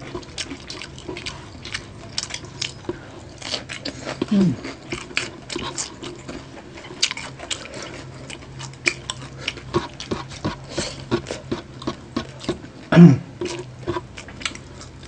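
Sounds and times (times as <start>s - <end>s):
wet chewing and lip smacks: 0.0s - 12.8s
faint steady hum: 0.0s - 15.0s.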